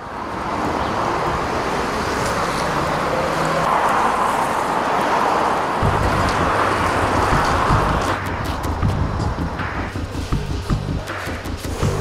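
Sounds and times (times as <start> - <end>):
deep traffic rumble: 0.0 - 12.0
passing cars: 0.0 - 12.0.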